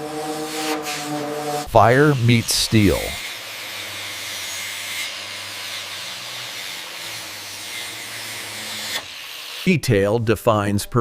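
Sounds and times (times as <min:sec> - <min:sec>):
workshop tool hissing: 0:00.1 - 0:09.8.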